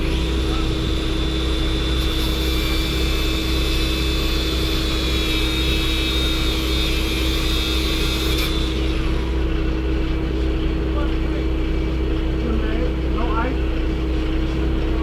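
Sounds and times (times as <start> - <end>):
high-pitched whine: 0.0 - 15.0
motor humming: 0.0 - 15.0.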